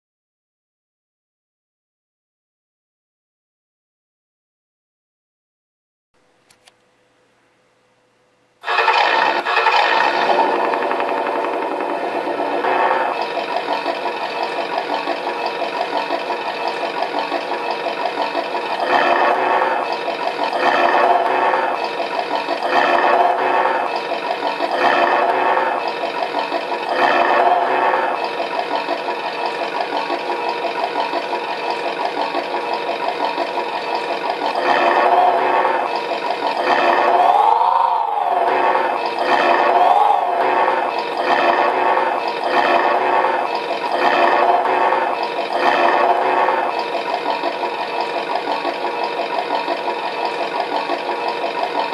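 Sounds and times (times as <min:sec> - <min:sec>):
engine throttle blips: 0:08.6 - 0:51.9
simulated engine idle through loudspeaker: 0:08.6 - 0:51.9.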